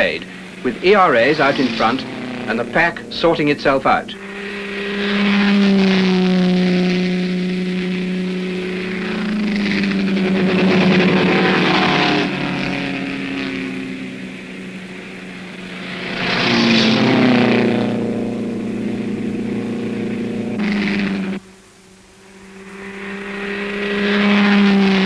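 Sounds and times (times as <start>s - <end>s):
racing car engines passing: 0.0s - 25.0s.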